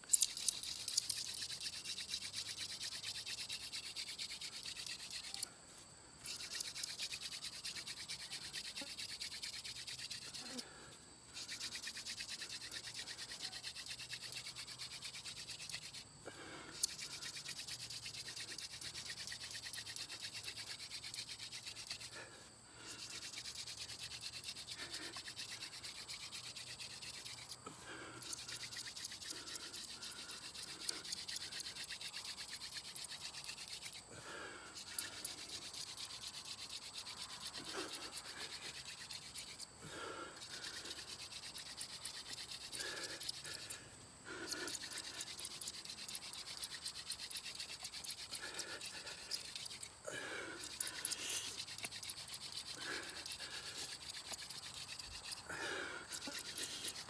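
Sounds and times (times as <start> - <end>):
wooden spindle grinding rasp: 0.0 - 5.4, 6.3 - 10.7, 11.4 - 16.1, 16.8 - 34.1, 34.7 - 57.0.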